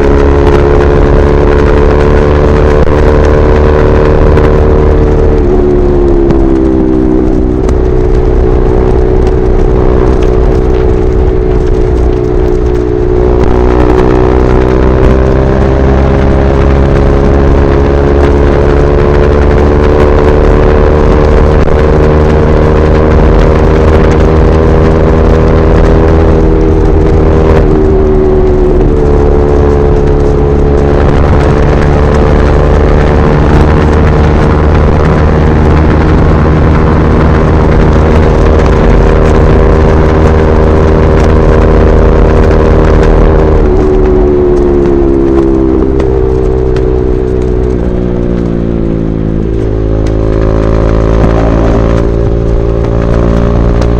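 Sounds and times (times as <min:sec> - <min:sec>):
motorcycle engine at highway speed: 0:00.0 - 0:53.9.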